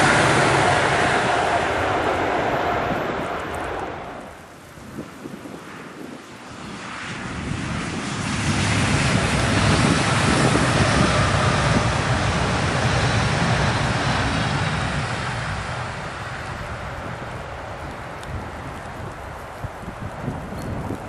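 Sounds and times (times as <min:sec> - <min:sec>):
train passing at speed: 0:00.0 - 0:21.0.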